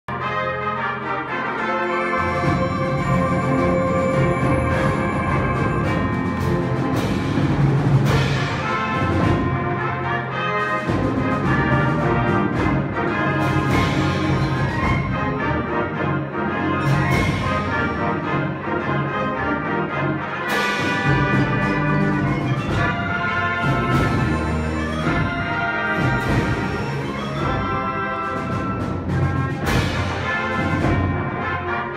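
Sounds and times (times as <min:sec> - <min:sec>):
brass chords: 0:00.1 - 0:31.9
concert band playing: 0:00.1 - 0:31.9.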